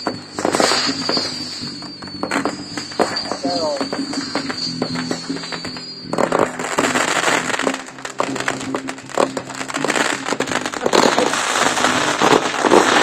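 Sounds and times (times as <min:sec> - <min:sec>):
fireworks crackling and popping: 0:00.0 - 0:13.0
music playing: 0:00.0 - 0:13.0.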